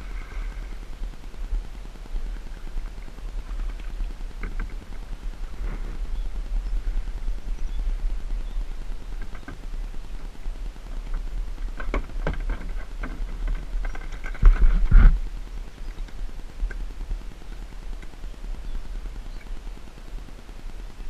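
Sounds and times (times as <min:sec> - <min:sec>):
muffled low rumble: 0:00.0 - 0:21.0.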